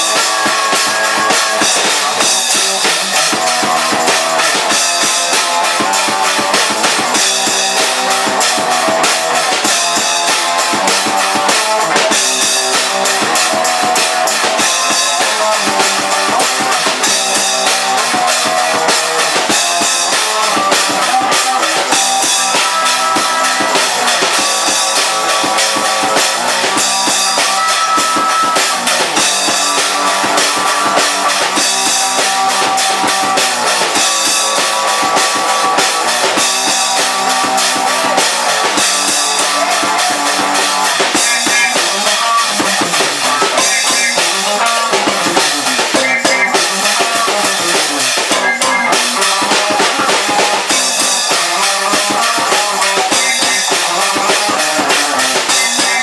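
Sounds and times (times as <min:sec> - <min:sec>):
music with drums and guitar: 0:00.0 - 0:56.0.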